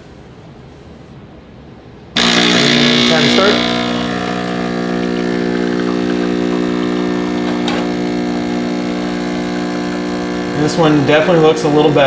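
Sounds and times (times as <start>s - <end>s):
espresso machine pump humming: 2.2s - 12.0s.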